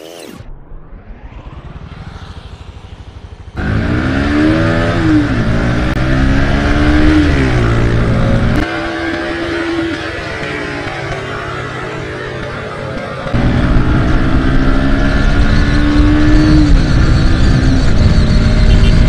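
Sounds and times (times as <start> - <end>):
motorcycle engine revving: 2.4 - 19.0.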